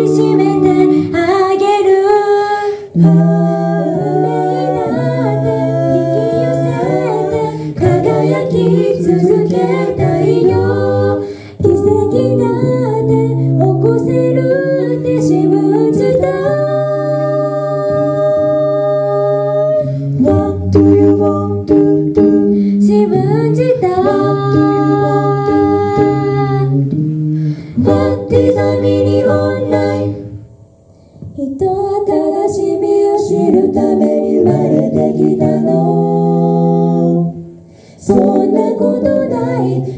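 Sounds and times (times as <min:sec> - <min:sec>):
a cappella group singing: 0:00.0 - 0:39.9.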